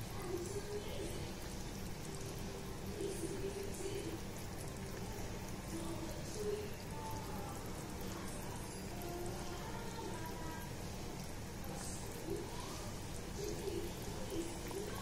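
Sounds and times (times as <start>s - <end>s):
thick gravy simmering in pot: 0.0s - 15.0s.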